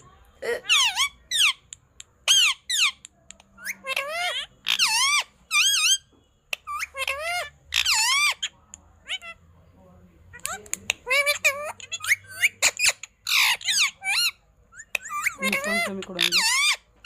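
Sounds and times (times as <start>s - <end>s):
parrot squeaky calls: 0.4s - 9.4s, 10.3s - 17.0s.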